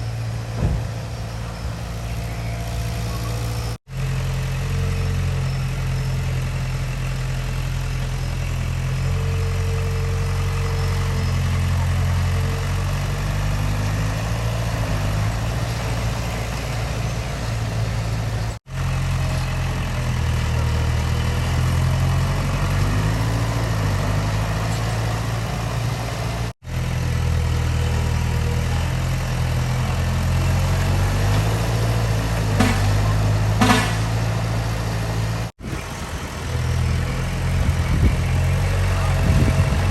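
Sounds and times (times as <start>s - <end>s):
heavy diesel engine drone: 0.0s - 39.9s.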